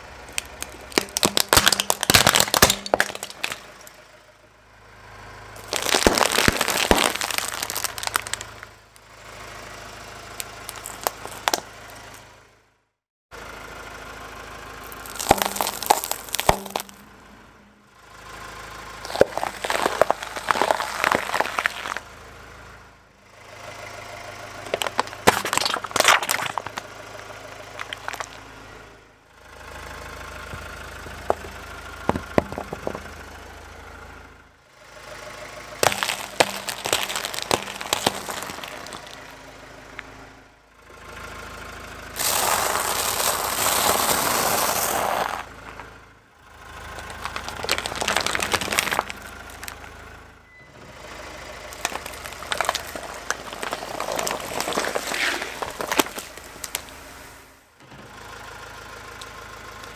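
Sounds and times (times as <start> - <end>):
car tyre crushing objects: 0.0 - 12.6, 14.0 - 22.8, 23.5 - 34.3, 34.9 - 57.6
car engine idling: 0.0 - 59.9.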